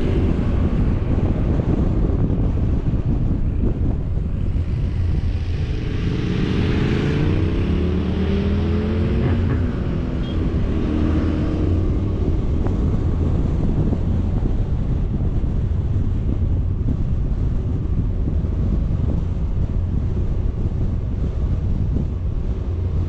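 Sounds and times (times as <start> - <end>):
vehicle engine running: 0.0 - 23.0
wind buffeting the microphone: 0.0 - 23.0.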